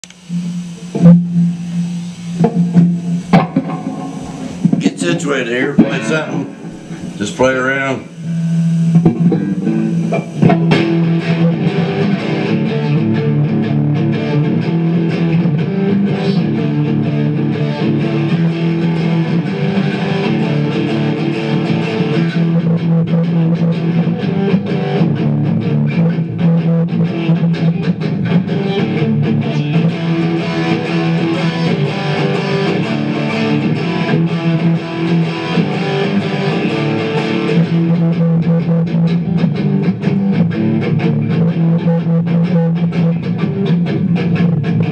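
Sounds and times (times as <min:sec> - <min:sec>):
distorted electric guitar riff: 0:00.0 - 0:44.9.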